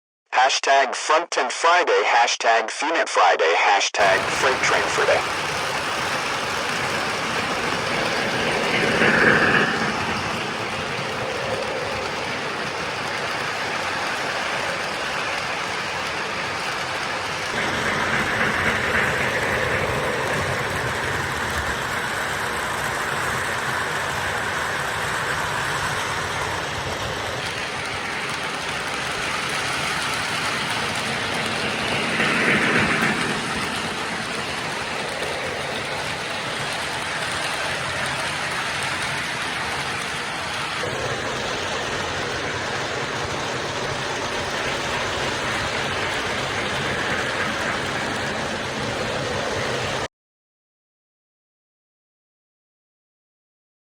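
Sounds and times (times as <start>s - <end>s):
model train wheels clattering on rail: 5.2s - 50.0s.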